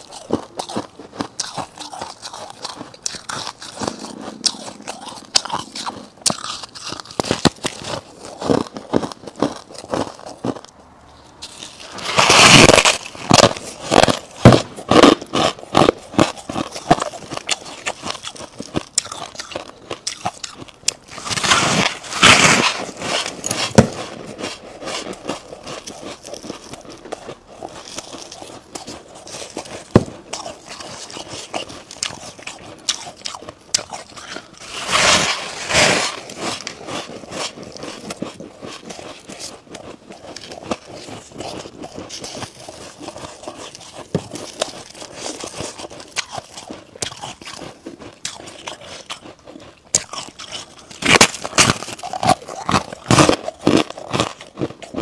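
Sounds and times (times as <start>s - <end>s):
frost crunching bites: 0.0s - 10.7s, 11.4s - 55.0s
squeaky chewing crunches: 0.0s - 55.0s.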